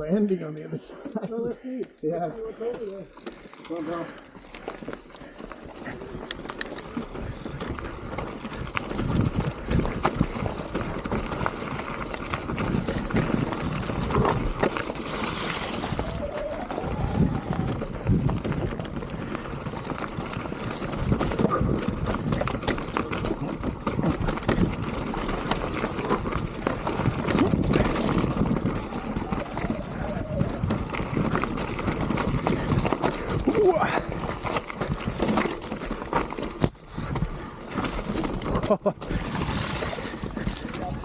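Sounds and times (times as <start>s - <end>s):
bike and chain rattling: 1.4s - 41.0s
tyre noise on dirt: 2.7s - 41.0s.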